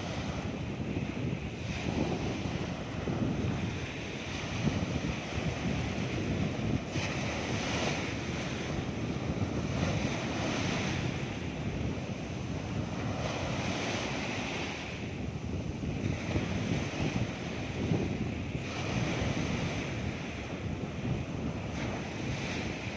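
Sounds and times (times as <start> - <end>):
small waves washing up beach: 0.0 - 22.9
wind buffeting microphone: 0.0 - 22.9.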